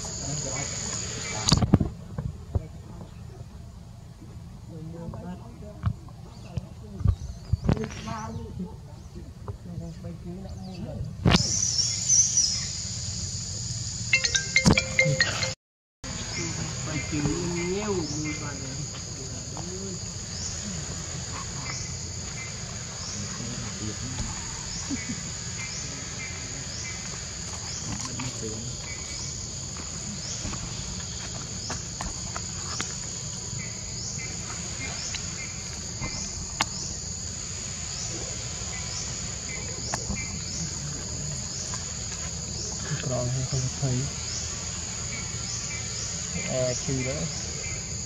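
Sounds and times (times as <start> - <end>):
high-pitched insect chorus: 0.0 - 1.7, 9.8 - 48.0.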